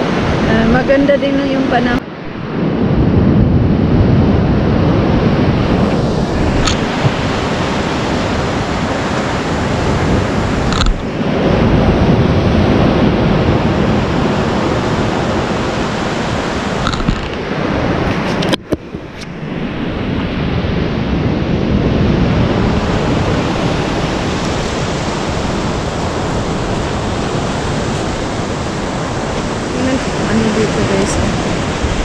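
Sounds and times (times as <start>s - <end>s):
ocean surf breaking on beach: 0.0s - 32.0s
wind buffeting microphone: 0.0s - 32.0s.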